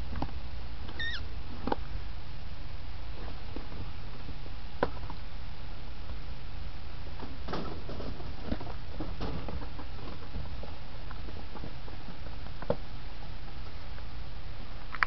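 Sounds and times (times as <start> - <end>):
rat eating and shuffling: 0.0 - 15.0
steady background hiss: 0.0 - 15.0.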